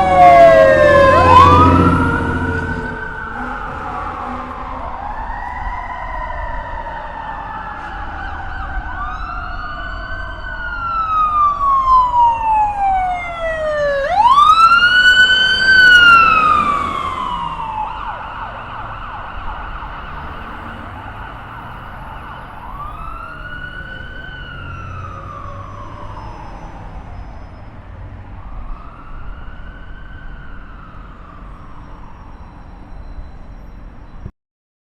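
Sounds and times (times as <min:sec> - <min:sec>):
police sirens wailing: 0:00.0 - 0:34.1.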